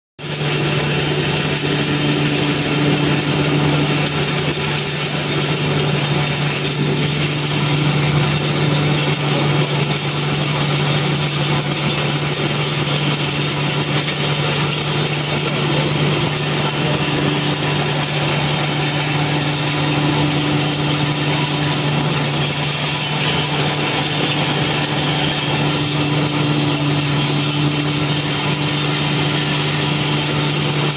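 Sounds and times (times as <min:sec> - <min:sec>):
corn shelling machine running: 0:00.2 - 0:30.9.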